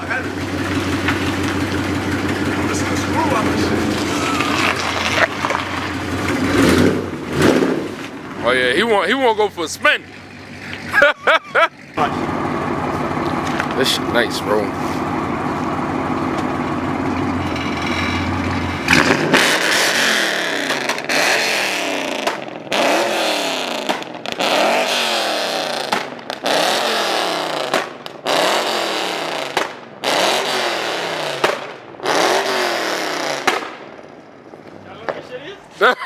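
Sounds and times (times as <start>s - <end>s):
car engine idling and revving: 0.0s - 35.1s.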